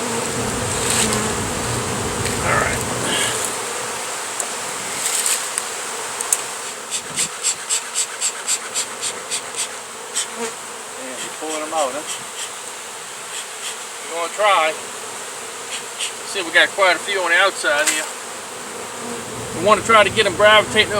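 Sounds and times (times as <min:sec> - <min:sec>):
bees buzzing: 0:00.0 - 0:20.9.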